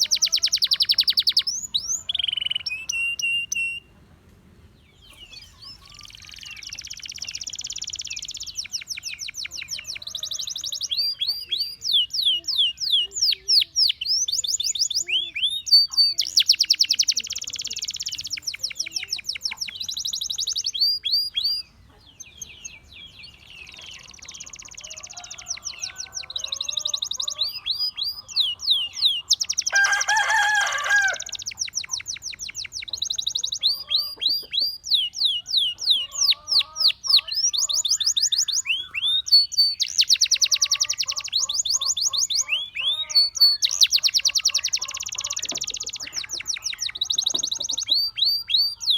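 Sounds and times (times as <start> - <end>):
canary singing trills: 0.0 - 4.0, 4.9 - 48.9.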